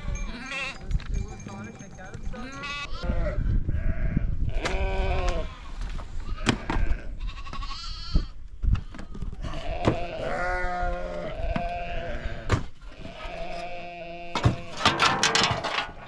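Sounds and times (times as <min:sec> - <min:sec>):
sheep and goats bleating: 0:00.0 - 0:01.0, 0:02.3 - 0:08.4, 0:09.1 - 0:15.0.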